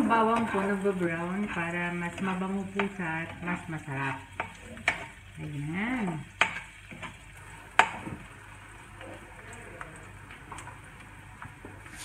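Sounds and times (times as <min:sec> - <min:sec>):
faint oil sizzle: 0:00.0 - 0:12.0.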